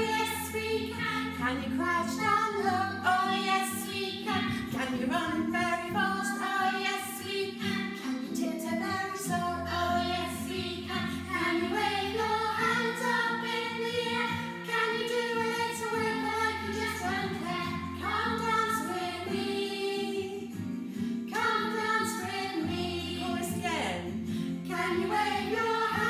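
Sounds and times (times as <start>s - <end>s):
children's song with backing music: 0.0s - 26.0s.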